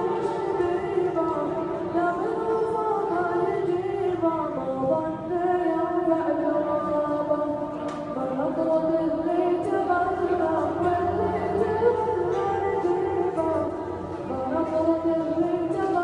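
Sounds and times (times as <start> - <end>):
person singing unaccompanied chant: 0.0 - 16.0.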